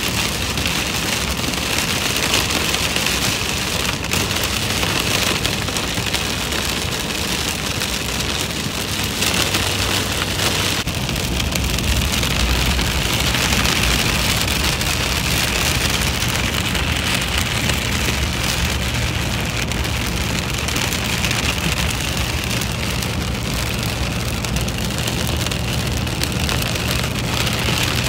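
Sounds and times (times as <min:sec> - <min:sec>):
car engine and tyres drone: 0:00.0 - 0:28.0
rain on a car: 0:00.0 - 0:28.0.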